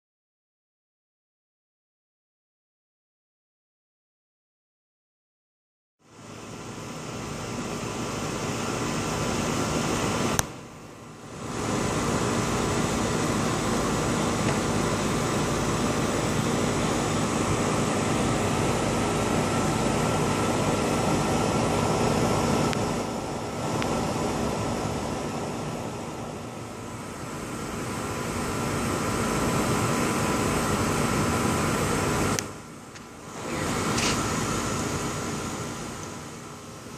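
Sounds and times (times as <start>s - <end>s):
steady droning noise: 6.0s - 36.9s.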